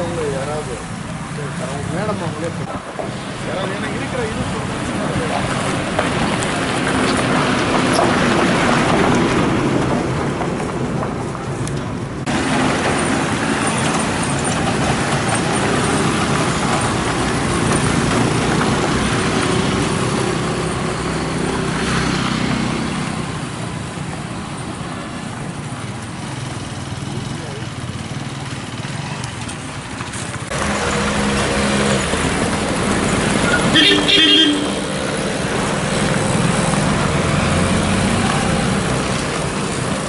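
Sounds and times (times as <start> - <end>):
vehicles passing on rough road: 0.0 - 40.0.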